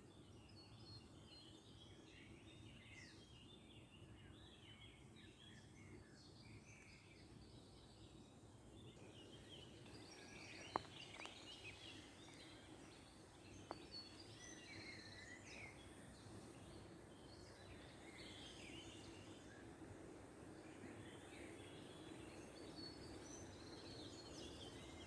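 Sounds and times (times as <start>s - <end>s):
low steady background rush: 0.0s - 25.0s
small songbirds chirping: 0.0s - 25.0s.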